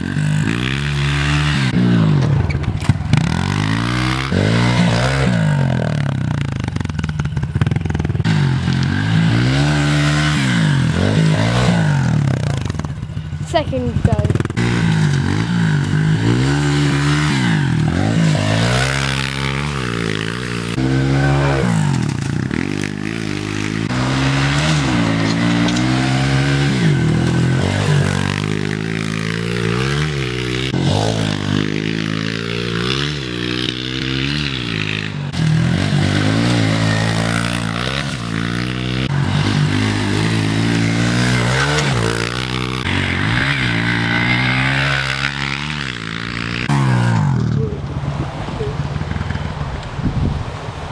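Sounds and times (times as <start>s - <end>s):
small motorbike engine revving: 0.0s - 48.0s.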